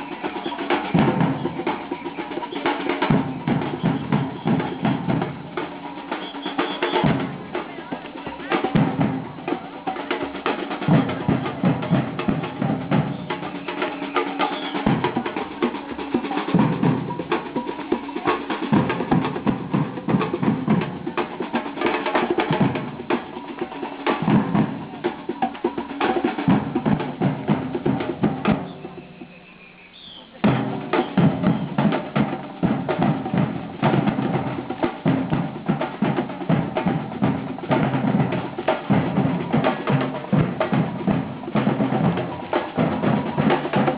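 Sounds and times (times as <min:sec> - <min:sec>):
drums and percussion rhythm: 0:00.0 - 0:43.9.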